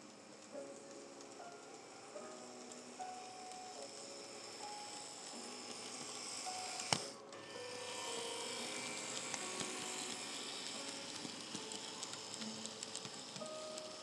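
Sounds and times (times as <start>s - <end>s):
model train motor whirring: 0.0s - 14.0s
wheels ticking over track: 0.0s - 14.0s.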